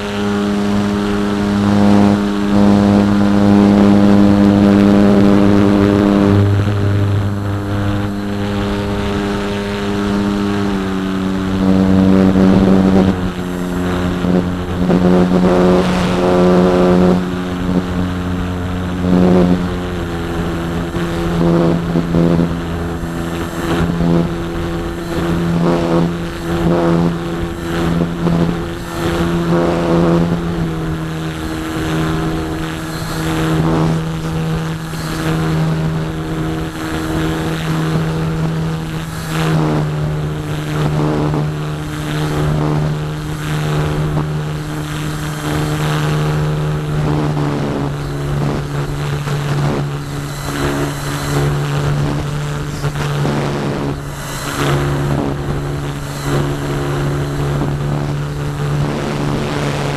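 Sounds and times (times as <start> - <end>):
electric motor and propeller humming: 0.0 - 59.9.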